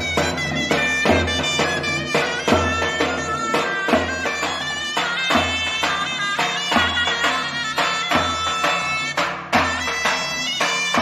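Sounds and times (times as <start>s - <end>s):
zurna melody in held notes: 0.0s - 11.0s.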